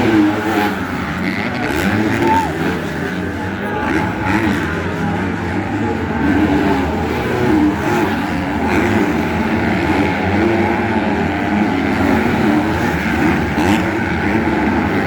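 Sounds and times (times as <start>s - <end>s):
motocross bike engines racing: 0.0s - 15.0s.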